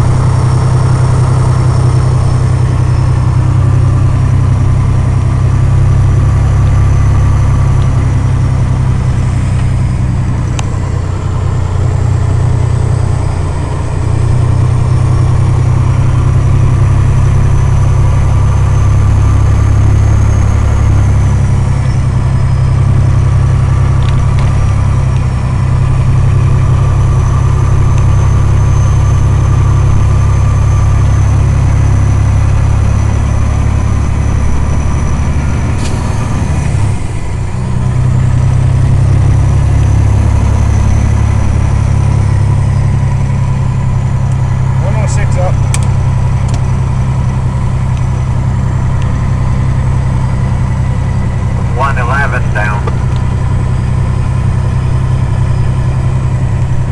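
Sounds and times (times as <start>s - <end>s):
diesel truck engine drone: 0.0s - 56.9s.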